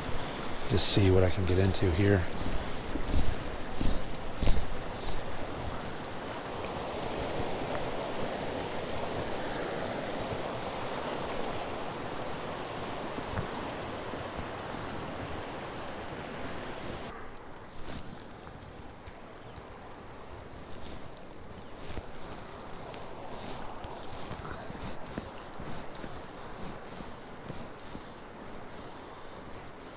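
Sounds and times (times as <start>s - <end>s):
river water running over rocks: 0.0s - 17.1s, 17.7s - 29.9s.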